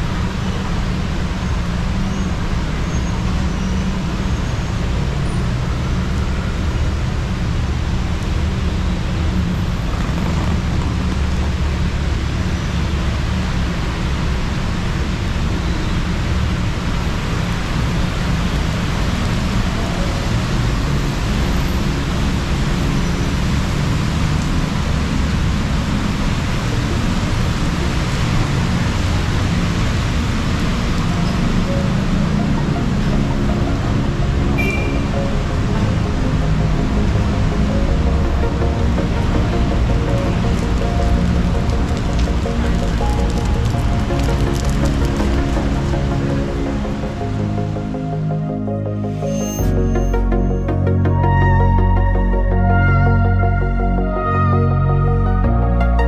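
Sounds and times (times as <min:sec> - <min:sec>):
rain falling on street: 0:00.0 - 0:48.3
road traffic passing: 0:00.0 - 0:56.0.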